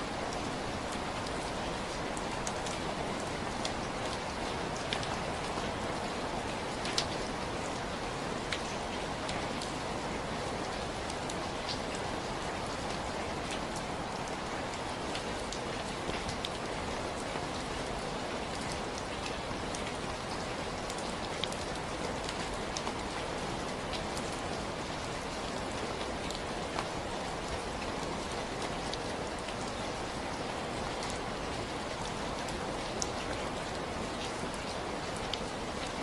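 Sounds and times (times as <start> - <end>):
steady rainfall: 0.0 - 36.0.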